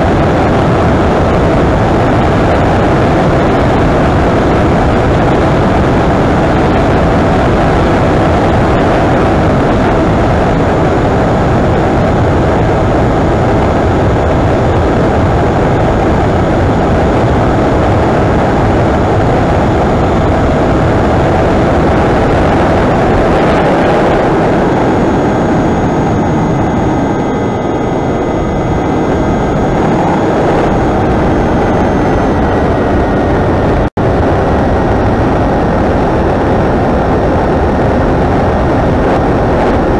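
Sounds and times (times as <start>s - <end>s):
electric motor whine: 0.0s - 39.9s
rushing wind: 0.0s - 39.9s.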